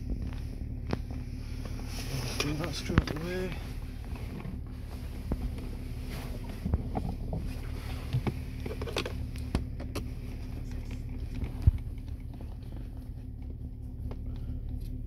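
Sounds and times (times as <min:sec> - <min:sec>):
car low hum: 0:00.0 - 0:15.0.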